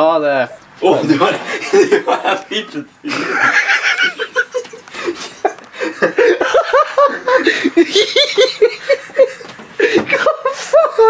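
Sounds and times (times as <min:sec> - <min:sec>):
young man laughing: 0:00.8 - 0:11.0.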